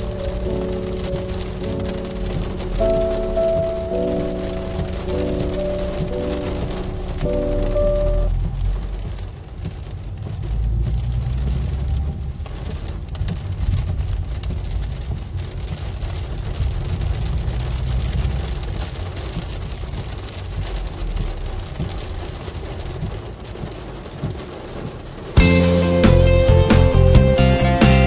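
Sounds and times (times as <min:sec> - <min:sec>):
car rumble on wet road: 0:00.0 - 0:25.6
rain on car roof: 0:00.0 - 0:28.0.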